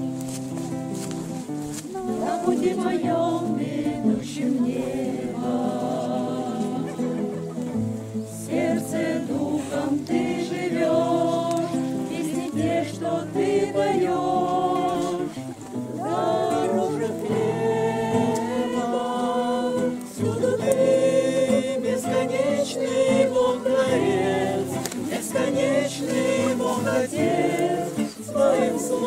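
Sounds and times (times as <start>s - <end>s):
group singing a hymn: 1.3s - 29.0s
strummed acoustic guitar: 5.3s - 29.0s.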